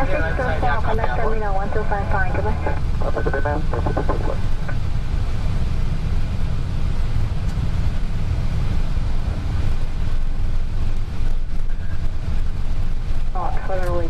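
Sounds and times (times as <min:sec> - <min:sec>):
aircraft rolling low rumble: 0:00.0 - 0:14.0.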